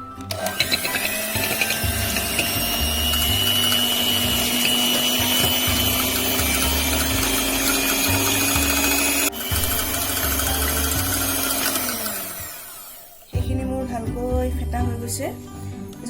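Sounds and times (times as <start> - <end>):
electric hand blender whining: 0.2 - 13.4.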